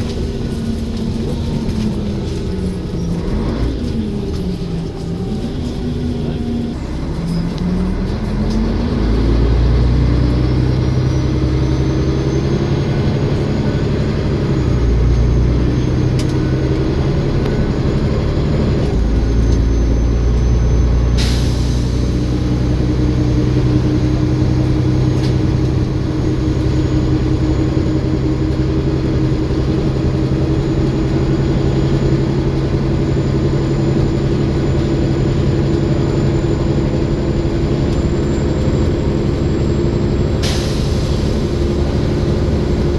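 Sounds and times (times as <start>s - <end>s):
bus diesel engine: 0.0s - 42.9s
turbocharger whine: 0.0s - 42.9s.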